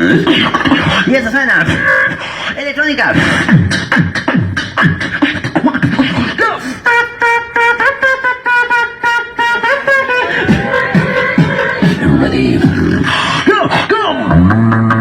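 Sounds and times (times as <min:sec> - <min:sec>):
beatboxing kicks and snares: 0:00.0 - 0:15.0.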